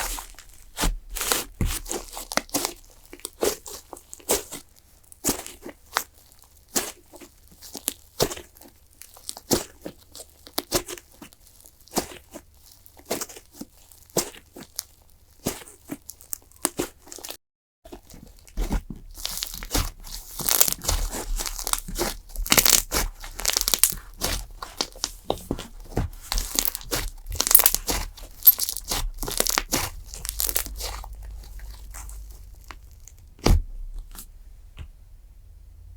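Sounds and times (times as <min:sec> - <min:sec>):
clay slime crackling and popping: 0:00.0 - 0:34.9.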